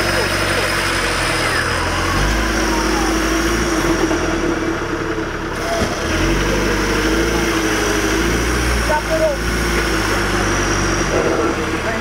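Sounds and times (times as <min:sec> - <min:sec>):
vehicle engine under load: 0:00.0 - 0:12.0.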